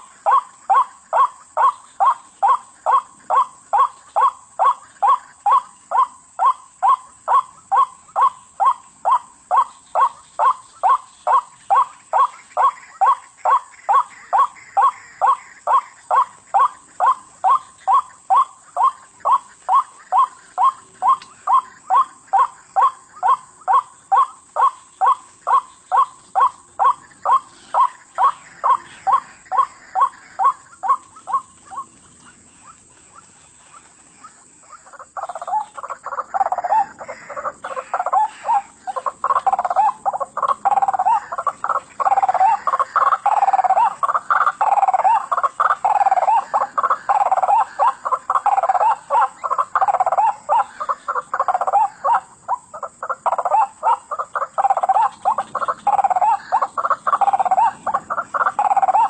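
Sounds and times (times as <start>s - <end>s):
waterhen calling rhythmically: 0.0s - 59.0s.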